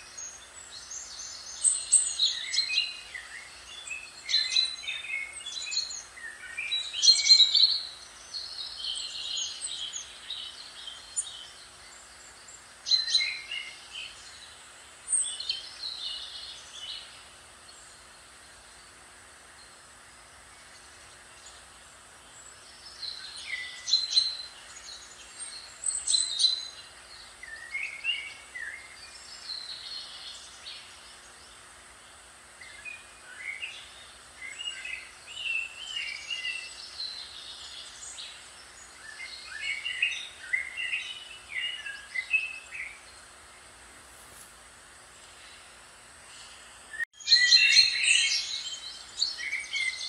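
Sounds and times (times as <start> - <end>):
faint hiss: 0.0 - 50.0.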